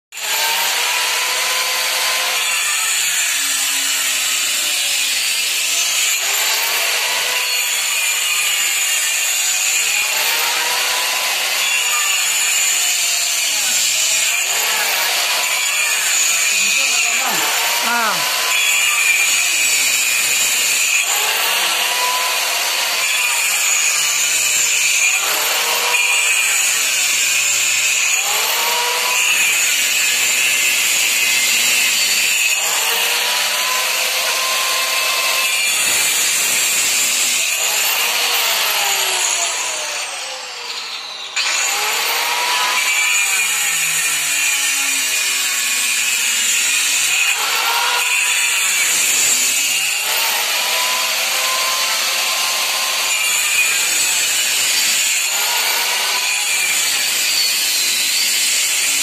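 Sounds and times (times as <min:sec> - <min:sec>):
circular cutter grinding into brick: 0:00.2 - 0:59.0.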